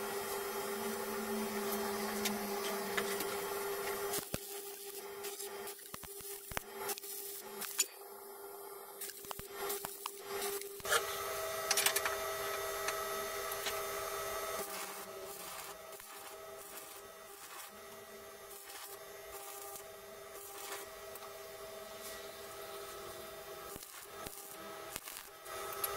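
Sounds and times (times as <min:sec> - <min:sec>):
welding arc crackling: 0:00.0 - 0:07.9, 0:08.9 - 0:25.9
steady hum: 0:00.0 - 0:25.9.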